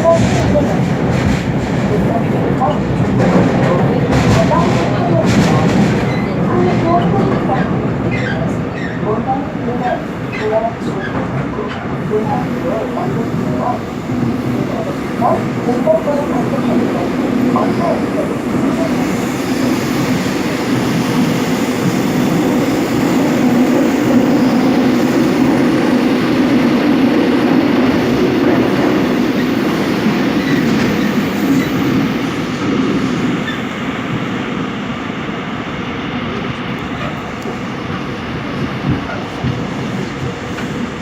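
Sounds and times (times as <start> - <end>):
subway train rumbling on rails: 0.0 - 41.0.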